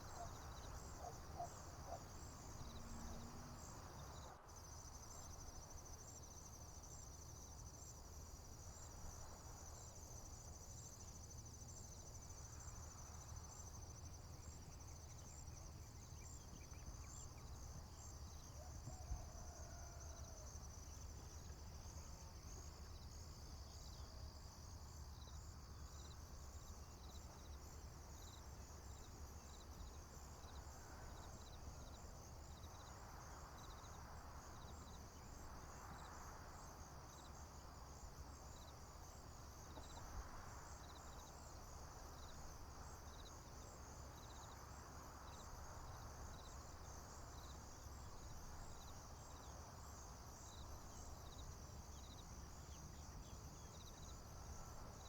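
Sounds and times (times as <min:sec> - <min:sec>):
insects trilling: 0:00.0 - 0:08.9, 0:09.8 - 0:55.0
cricket chirping: 0:00.0 - 0:55.0.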